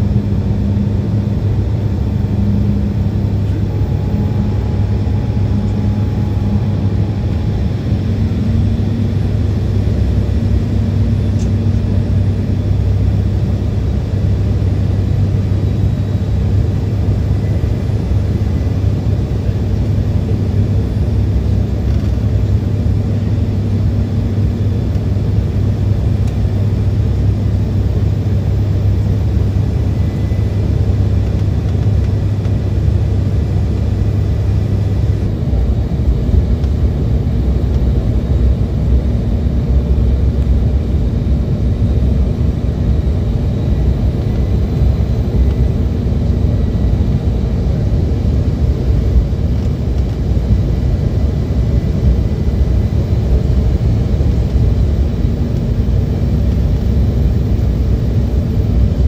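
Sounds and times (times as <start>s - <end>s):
faint high engine whine: 0.0s - 59.0s
jet engine and airflow rumble: 0.0s - 59.0s.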